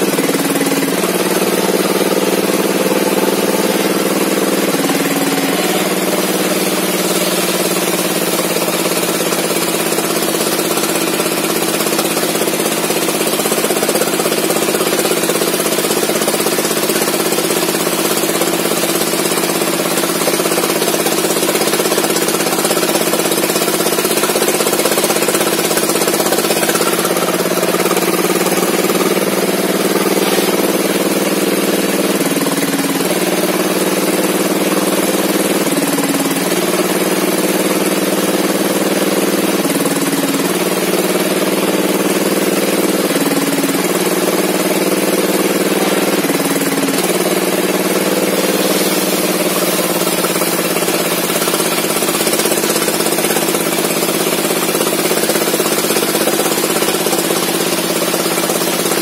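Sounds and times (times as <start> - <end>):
chainsaw running at high revs: 0.0 - 59.0.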